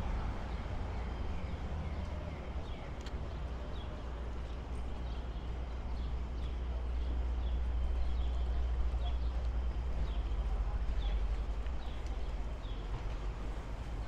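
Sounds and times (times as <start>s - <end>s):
city street rumble: 0.0s - 14.0s.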